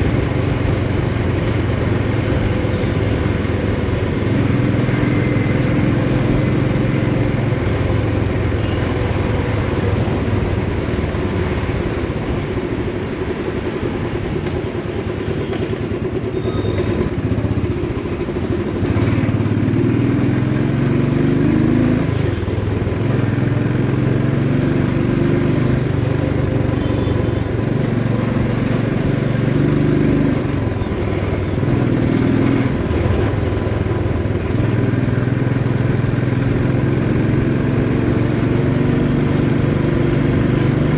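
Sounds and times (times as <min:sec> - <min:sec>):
motorcycle engine revving: 0:00.0 - 0:12.3, 0:15.3 - 0:40.9.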